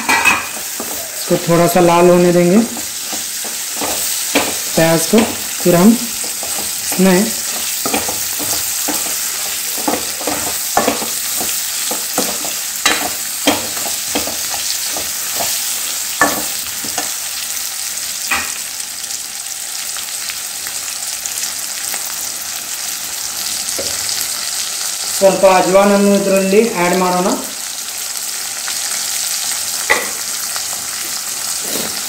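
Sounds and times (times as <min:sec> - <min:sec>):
vegetables sizzling in a pan: 0:00.0 - 0:32.0.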